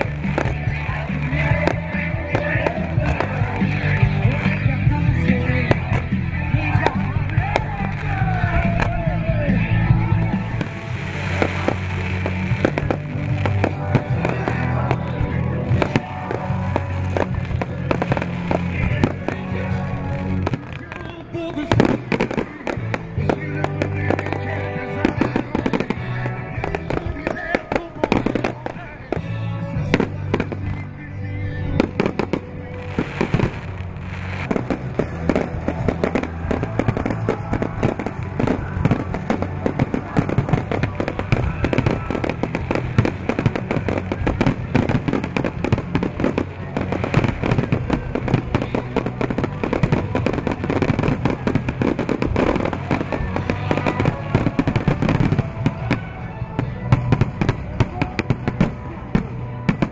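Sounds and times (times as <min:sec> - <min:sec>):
fireworks bursting and crackling: 0:00.0 - 0:59.9
music: 0:00.0 - 0:59.9.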